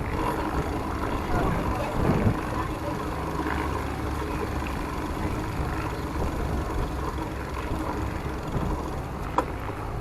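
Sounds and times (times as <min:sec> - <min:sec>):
wind rumble on microphone: 0:00.0 - 0:03.3, 0:04.4 - 0:10.0.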